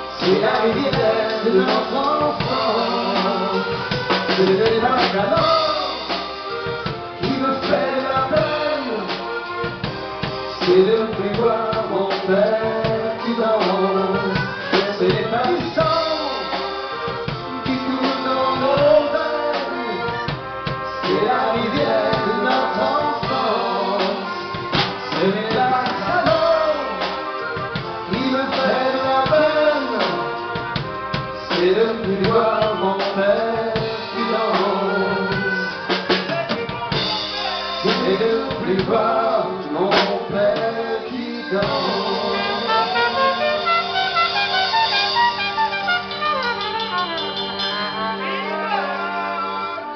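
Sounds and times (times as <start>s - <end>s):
drum kit with snare and cymbals: 0.0s - 49.9s
live dance band playing: 0.0s - 49.9s.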